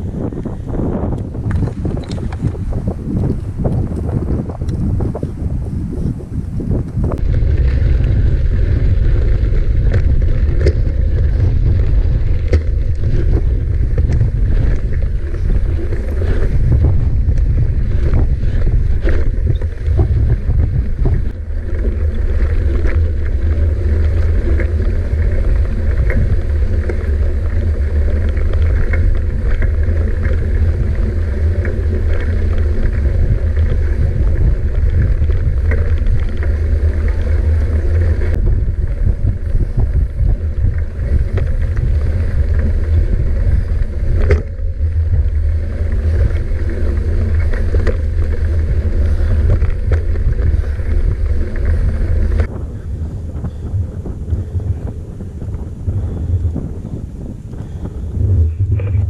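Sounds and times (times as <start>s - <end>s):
wind buffeting microphone: 0.0s - 59.0s
bike rattling clicks and knocks: 1.2s - 5.3s, 6.9s - 52.8s.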